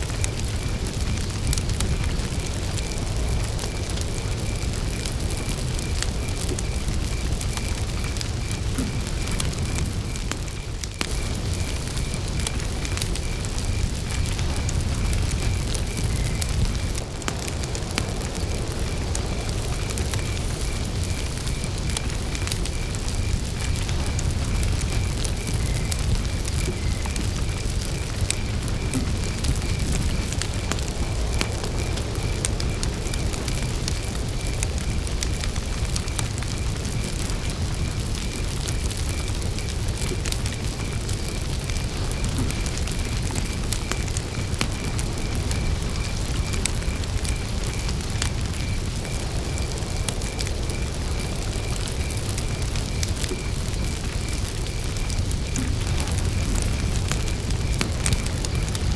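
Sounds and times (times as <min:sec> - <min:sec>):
campfire crackling and popping: 0:00.0 - 0:58.9
cricket chirping: 0:00.0 - 0:58.9.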